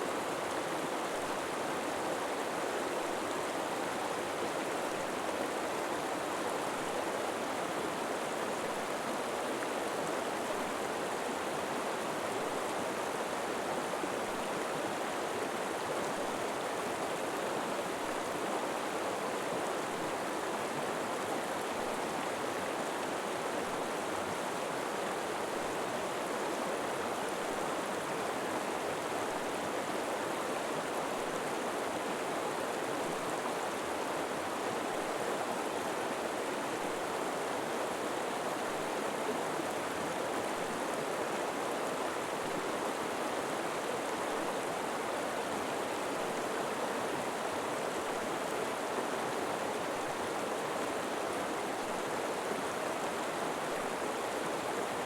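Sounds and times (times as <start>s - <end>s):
river water flowing over rocks: 0.1s - 55.0s.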